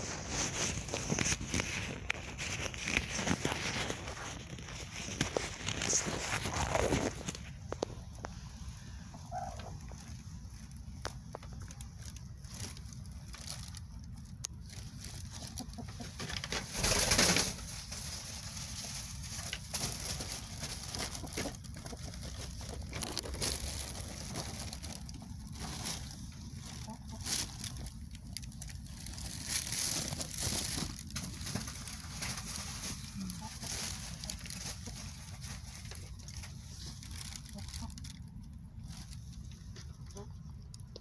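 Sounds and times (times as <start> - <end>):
rustling feathers and nest litter: 0.0 - 40.7.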